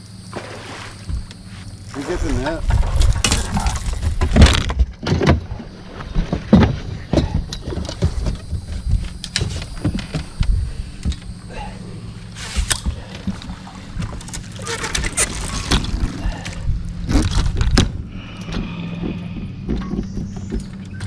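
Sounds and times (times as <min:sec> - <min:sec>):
steady low hum: 0:00.0 - 0:21.0
knocks and bumps on boat: 0:00.3 - 0:11.8, 0:12.4 - 0:21.0.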